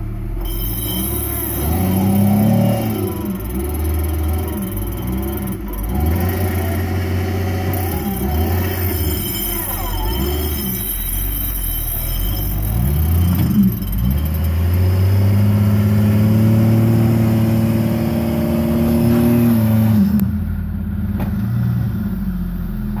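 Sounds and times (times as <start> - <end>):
engine revving under load: 0.0 - 23.0.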